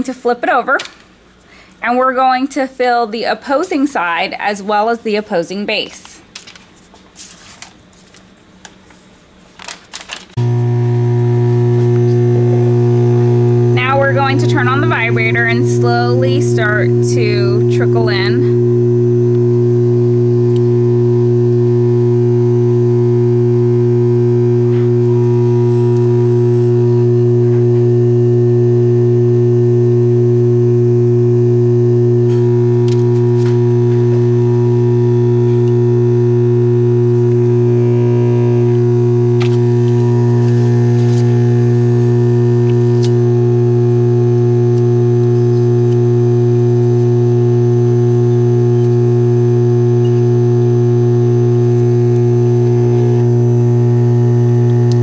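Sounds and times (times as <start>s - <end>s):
vibrator low electric buzz: 10.4s - 55.0s.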